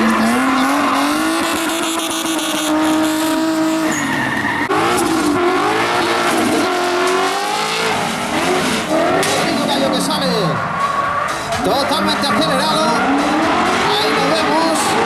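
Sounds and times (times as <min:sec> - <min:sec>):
car engine revving high: 0:00.0 - 0:15.0
tyres screeching: 0:00.0 - 0:15.0.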